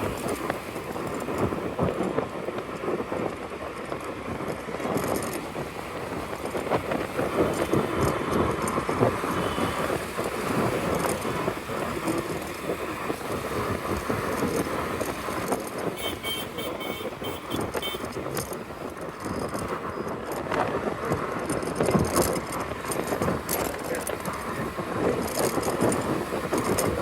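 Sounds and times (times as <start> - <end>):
road rumble: 0.0 - 27.0
surrounding traffic: 0.0 - 27.0
wind on microphone: 0.0 - 27.0.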